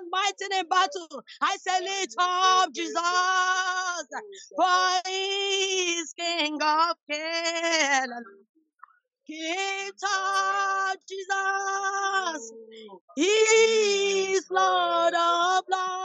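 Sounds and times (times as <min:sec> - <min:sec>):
woman singing gospel song: 0:00.0 - 0:08.3, 0:09.3 - 0:16.0.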